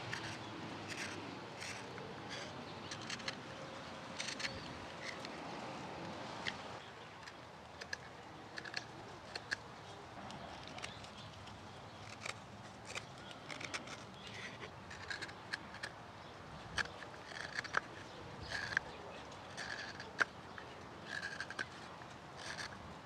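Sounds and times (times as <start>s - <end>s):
knife scraping wood: 0.0s - 16.0s, 16.6s - 22.9s.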